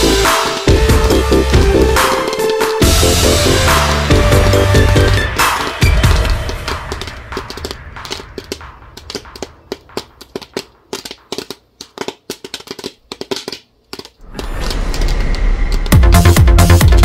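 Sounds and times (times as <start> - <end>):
popcorn popping in a pot: 0.0 - 14.2.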